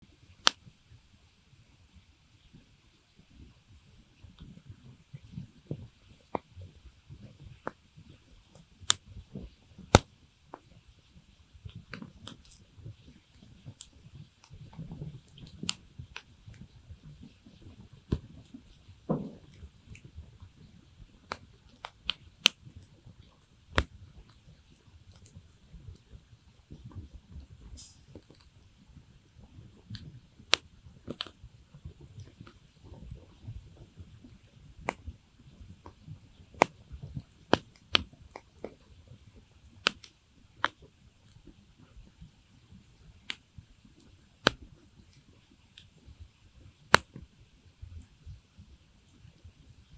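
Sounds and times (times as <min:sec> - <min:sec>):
campfire crackling: 0:00.2 - 0:01.0, 0:04.4 - 0:49.9
burning wood popping: 0:00.3 - 0:00.7, 0:04.4 - 0:48.2.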